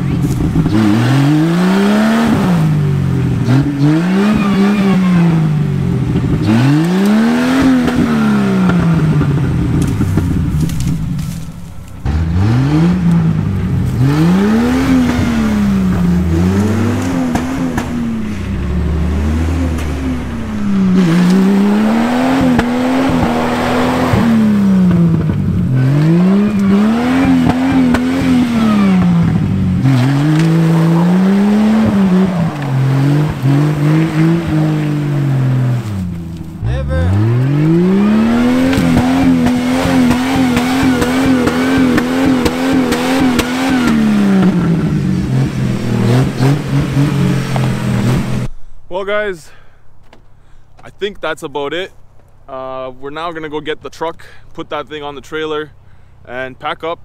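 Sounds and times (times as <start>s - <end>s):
car engine revving: 0.0s - 48.6s.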